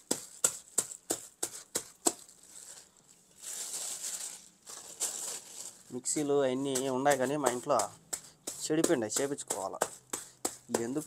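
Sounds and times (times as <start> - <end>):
glass pounding in plastic bag: 0.0 - 2.7, 4.0 - 11.0
plastic bag rustling: 0.0 - 11.0.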